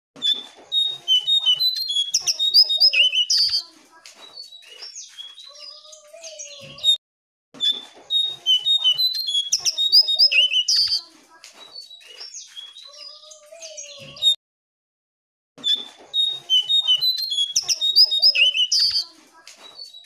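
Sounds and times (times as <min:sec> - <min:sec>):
bird singing whistled chirping notes: 0:00.3 - 0:07.0, 0:07.6 - 0:14.4, 0:15.7 - 0:19.1, 0:19.7 - 0:20.0.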